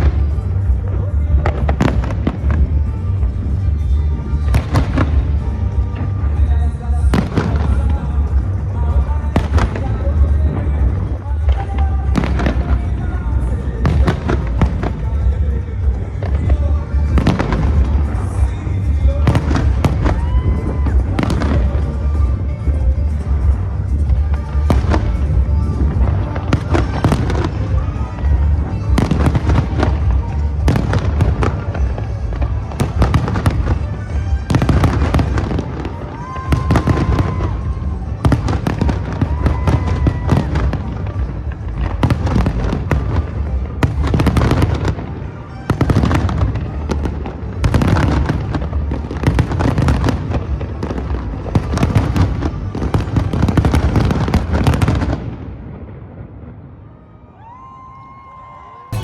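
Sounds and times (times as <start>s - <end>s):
fireworks bangs and crackles: 0.0s - 57.6s, 58.4s - 59.0s
music playing: 0.0s - 59.0s.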